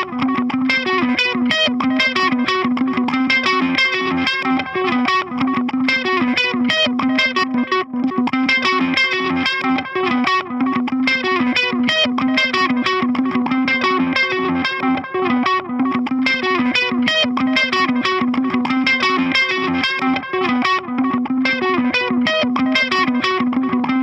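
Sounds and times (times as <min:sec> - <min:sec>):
electric guitar arpeggios: 0:00.0 - 0:24.0.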